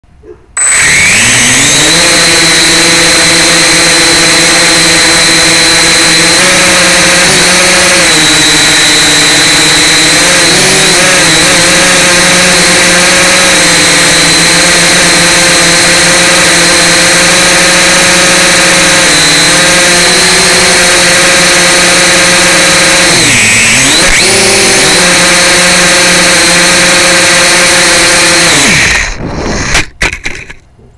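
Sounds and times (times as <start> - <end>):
toy drone motors whining: 0.6 - 30.6.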